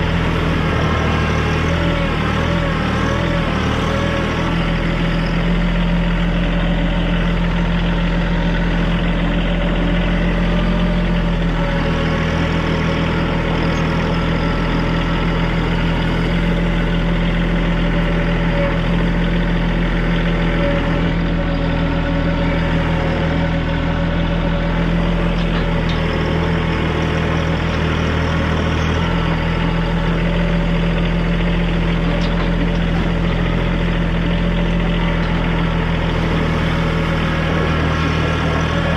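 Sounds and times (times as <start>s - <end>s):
tractor diesel engine droning: 0.0s - 38.9s.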